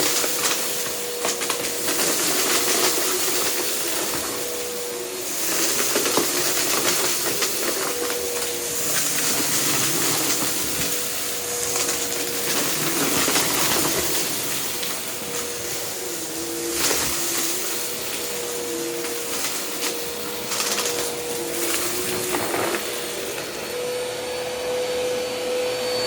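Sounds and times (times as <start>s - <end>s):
debris crackling being sucked up: 0.0s - 23.8s
vacuum cleaner running: 0.0s - 26.0s.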